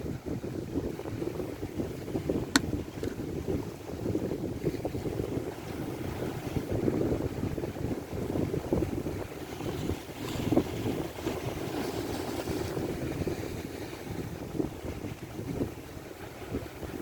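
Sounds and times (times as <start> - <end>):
rumbling noise on open water: 0.0 - 17.0
wind buffeting microphone: 0.0 - 17.0.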